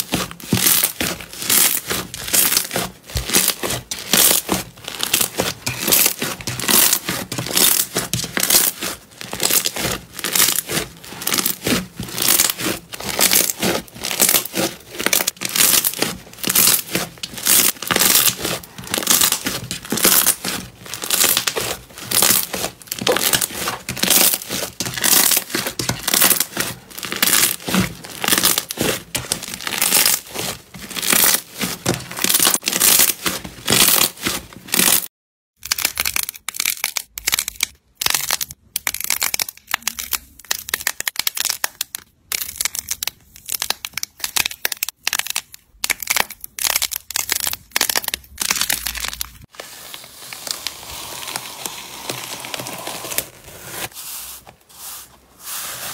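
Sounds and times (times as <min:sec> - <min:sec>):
foam clay balls crunching: 0:00.0 - 0:55.9
slime crackling and squelching: 0:00.0 - 0:55.9.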